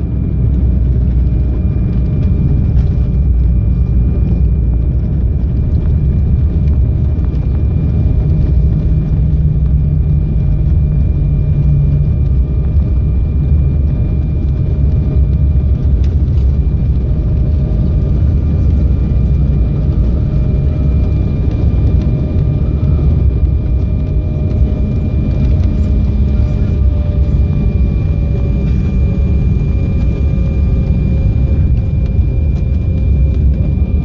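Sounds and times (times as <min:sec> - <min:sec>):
rumble of wheels and engines: 0:00.0 - 0:34.0
thin engine whine: 0:00.0 - 0:34.0.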